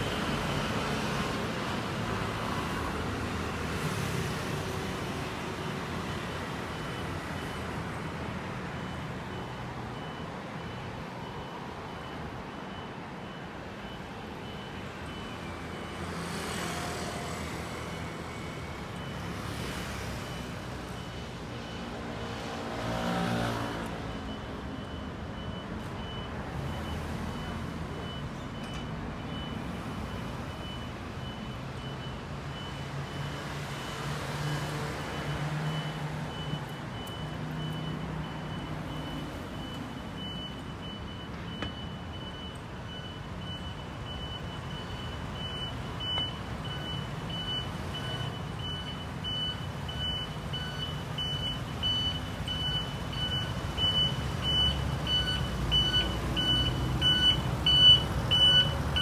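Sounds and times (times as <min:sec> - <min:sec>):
street traffic: 0:00.0 - 0:59.0.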